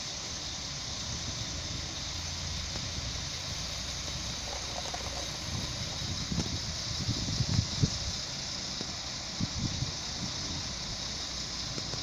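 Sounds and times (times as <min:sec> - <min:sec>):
constant hiss: 0:00.0 - 0:12.0
diesel railcar engine rumble: 0:00.0 - 0:12.0.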